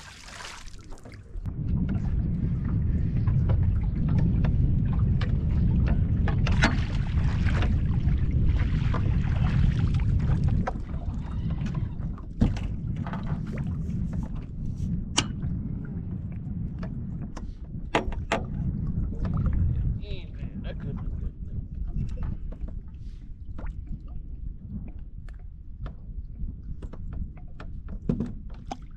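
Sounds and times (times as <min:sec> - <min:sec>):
wind and water rumble: 0:00.0 - 0:28.9.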